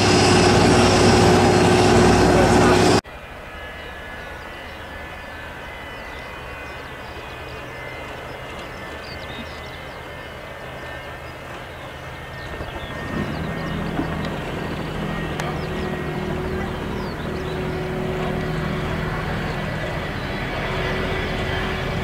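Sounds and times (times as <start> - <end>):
jet engines humming and whining: 0.0 - 22.0.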